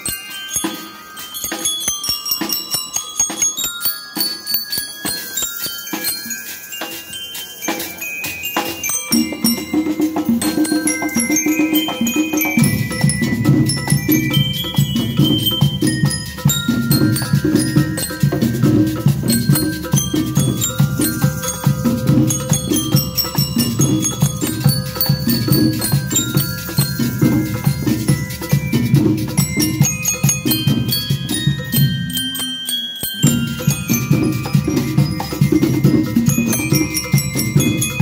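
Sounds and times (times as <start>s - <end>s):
bell lyre melody: 0.0s - 38.0s
driving drum beat: 5.1s - 32.2s, 33.2s - 38.0s.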